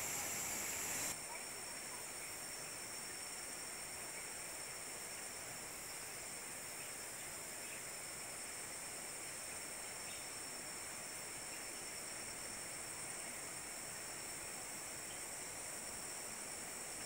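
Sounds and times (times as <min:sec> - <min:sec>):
faint hiss: 0:00.0 - 0:17.0
insect chorus drone: 0:00.0 - 0:17.0.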